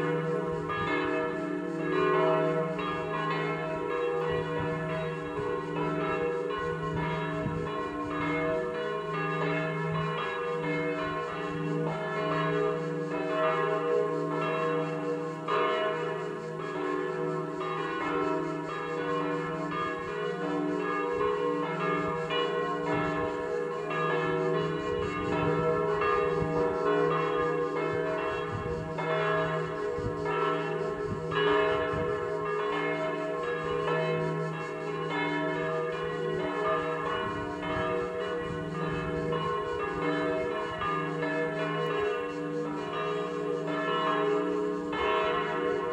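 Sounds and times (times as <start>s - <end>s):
church bells pealing: 0.0s - 45.9s.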